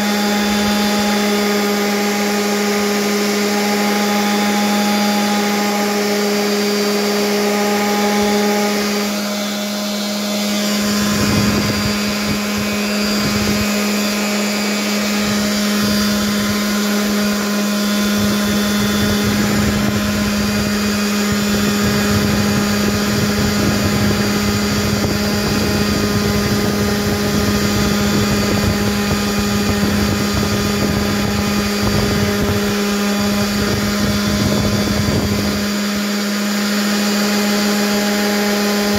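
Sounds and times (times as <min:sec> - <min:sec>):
orbital sander motor hum: 0:00.0 - 0:38.9
rough grinding noise: 0:00.0 - 0:38.9.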